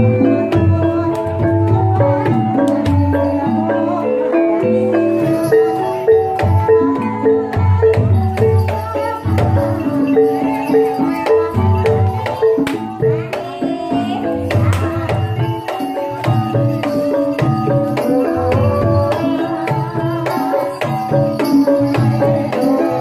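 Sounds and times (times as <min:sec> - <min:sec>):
mallet-struck melodic instruments: 0:00.0 - 0:23.0.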